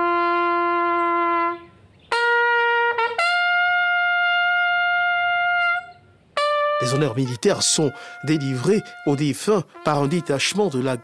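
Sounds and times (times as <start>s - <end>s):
bugle call: 0.0s - 11.0s.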